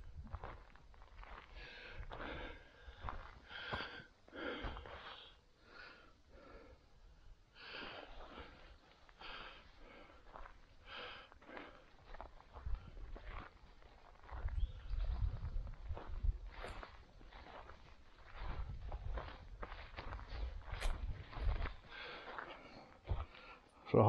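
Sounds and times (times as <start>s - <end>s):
footsteps through dry grass: 0.0s - 5.3s, 8.2s - 23.5s.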